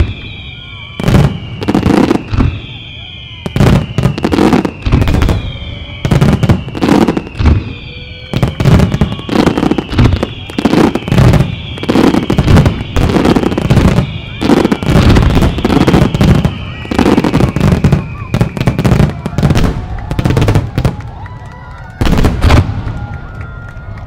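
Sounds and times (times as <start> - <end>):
firework whistles sliding down: 0.0 - 19.6.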